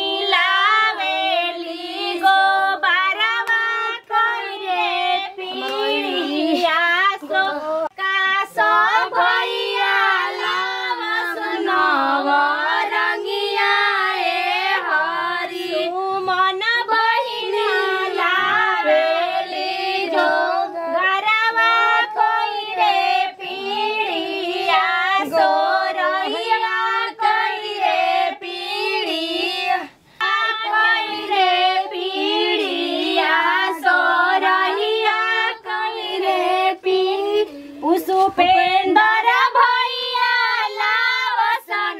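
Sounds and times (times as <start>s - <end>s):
women singing unaccompanied: 0.0s - 41.9s.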